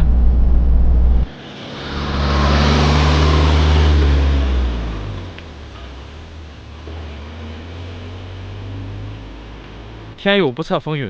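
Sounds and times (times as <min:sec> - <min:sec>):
engine drone: 0:00.0 - 0:10.4
road and tyre noise: 0:00.0 - 0:11.0.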